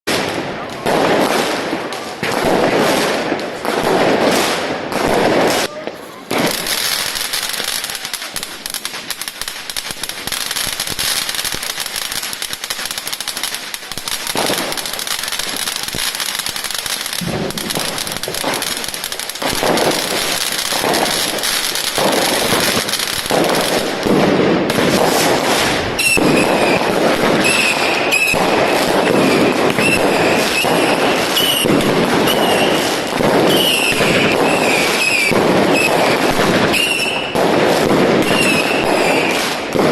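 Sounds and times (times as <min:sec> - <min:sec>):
fireworks crackling and popping: 0:00.0 - 0:39.9.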